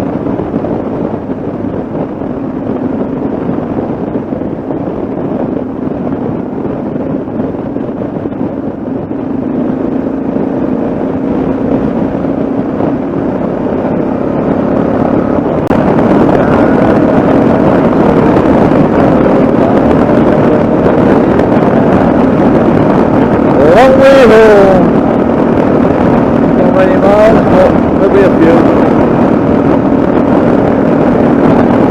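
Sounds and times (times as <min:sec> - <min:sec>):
motorcycle engine running: 0:00.0 - 0:31.9
wind rushing over microphone: 0:00.0 - 0:31.9.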